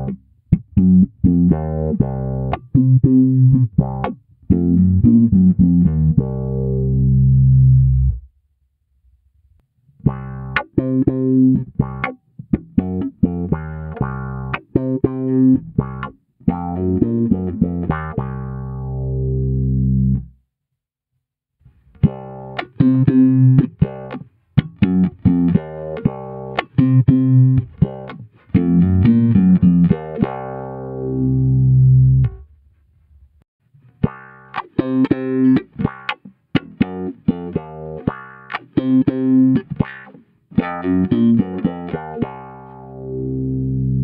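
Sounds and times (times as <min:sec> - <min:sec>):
funky filtered electric bass: 0:00.0 - 0:08.3, 0:10.0 - 0:20.4, 0:21.9 - 0:32.5, 0:34.0 - 0:44.0.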